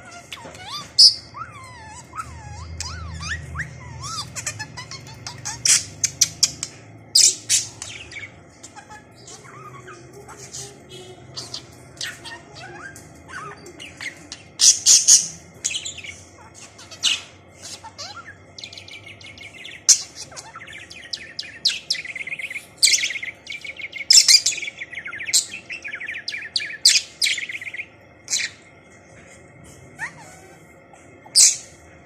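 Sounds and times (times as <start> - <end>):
budgerigar chattering and warbling: 0.0 - 28.6.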